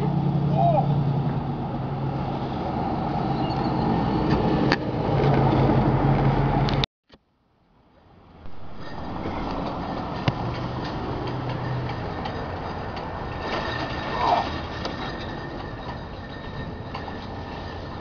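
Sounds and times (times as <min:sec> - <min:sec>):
vehicle engine hum: 0:00.0 - 0:06.9, 0:07.8 - 0:18.0
traffic noise: 0:00.0 - 0:18.0.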